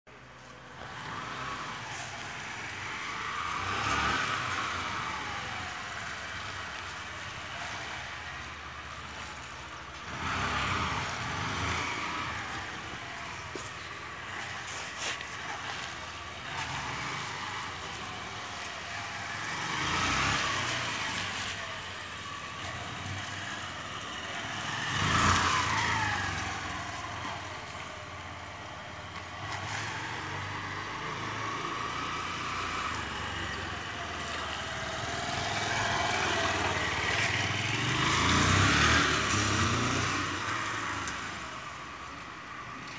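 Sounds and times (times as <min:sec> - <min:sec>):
small motorcycle engine passing: 0:00.4 - 0:42.9.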